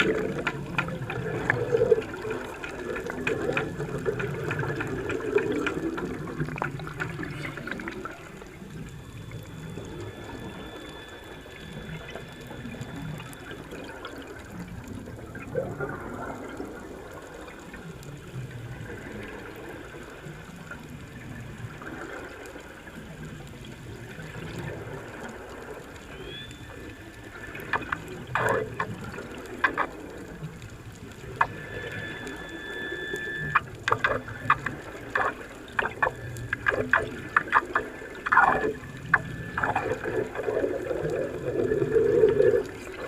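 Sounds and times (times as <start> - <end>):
water washing: 0.0 - 17.8, 24.0 - 43.0.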